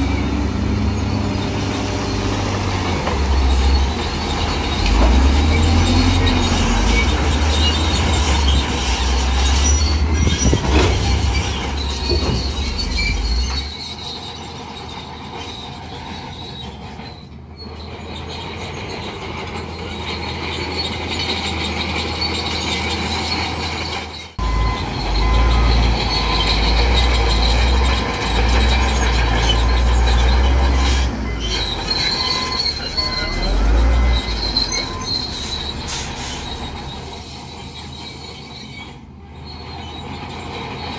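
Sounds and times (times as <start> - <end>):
bulldozer diesel engine rumbling: 0.0 - 40.9
steel tracks squealing and clanking: 0.0 - 40.9.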